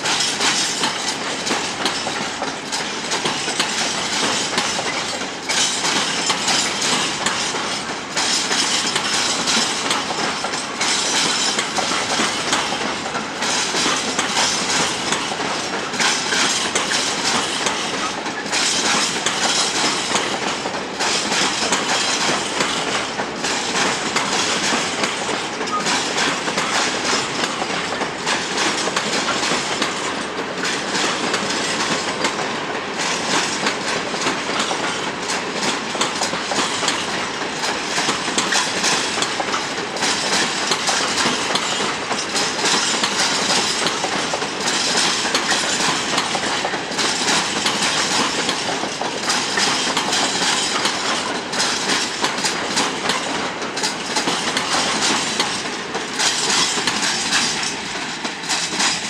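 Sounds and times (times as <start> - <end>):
train wheels clattering on track: 0.0 - 59.0.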